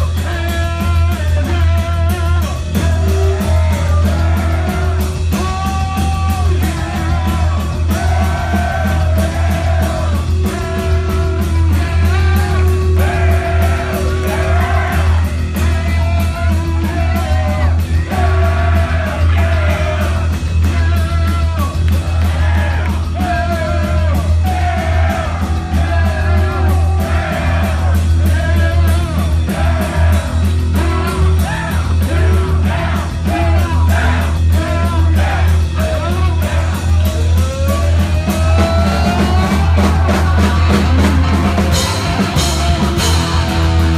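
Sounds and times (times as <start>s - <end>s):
heavy metal band playing live: 0.0s - 43.9s
wavering lead guitar line: 0.0s - 43.9s.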